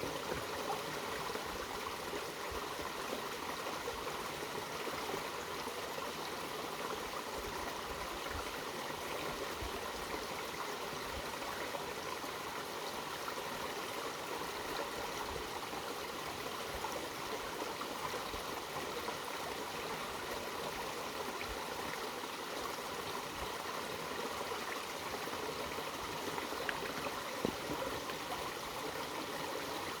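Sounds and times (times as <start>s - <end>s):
stream flowing over rocks: 0.0s - 30.0s.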